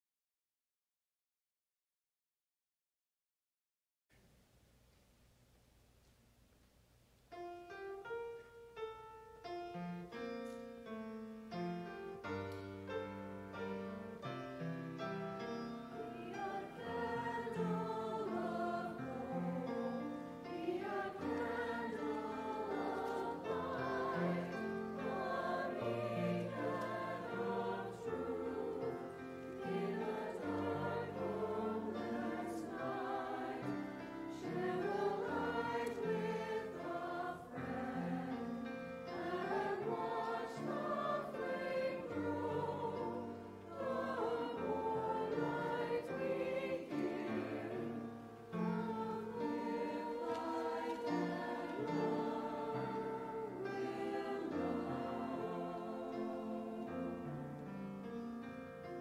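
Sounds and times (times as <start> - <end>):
piano accompaniment: 7.3 - 59.0
church choir singing: 10.0 - 59.0.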